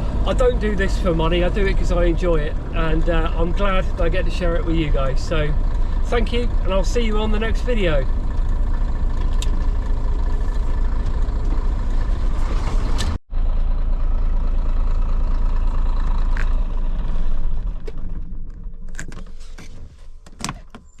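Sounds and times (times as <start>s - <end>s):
lorry diesel engine running: 0.0s - 20.2s.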